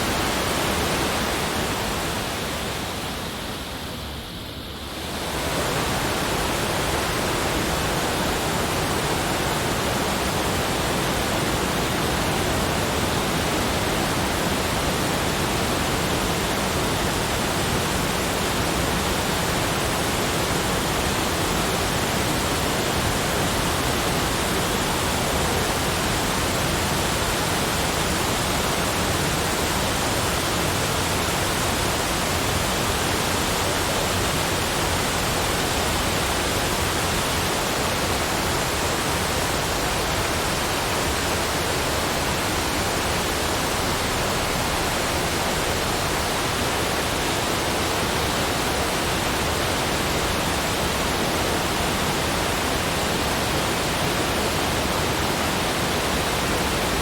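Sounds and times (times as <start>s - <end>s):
continuous rushing noise: 0.0s - 57.0s.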